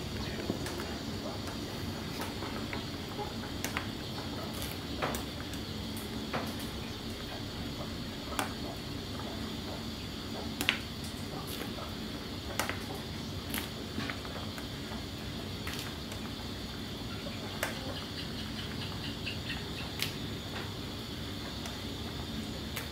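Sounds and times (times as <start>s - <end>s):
steady background hiss: 0.0s - 22.9s.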